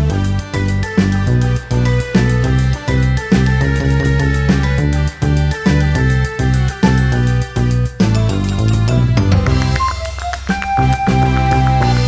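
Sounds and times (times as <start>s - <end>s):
drum kit beat: 0.0s - 12.0s
sustained instrumental notes: 0.0s - 12.0s.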